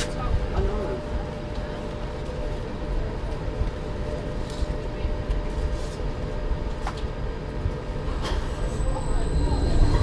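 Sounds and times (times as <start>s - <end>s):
train carriage rumble and hum: 0.0s - 10.0s.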